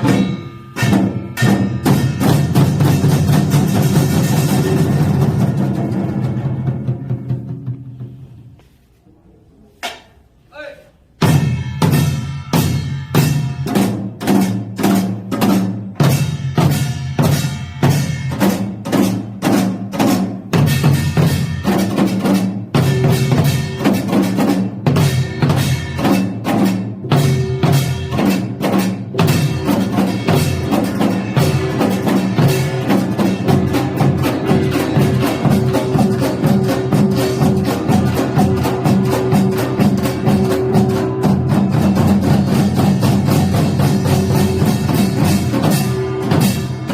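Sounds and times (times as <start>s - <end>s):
percussion ensemble drums and gongs: 0.0s - 8.6s, 10.6s - 46.9s.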